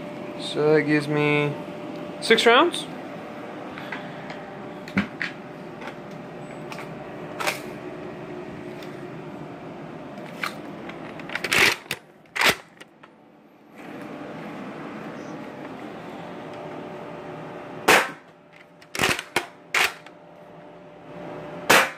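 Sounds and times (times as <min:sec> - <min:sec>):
room hum: 0:00.0 - 0:21.9.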